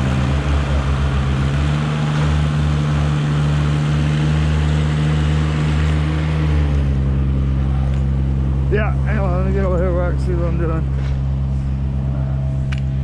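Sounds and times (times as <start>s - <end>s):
tracked lift engine running: 0.0s - 13.0s.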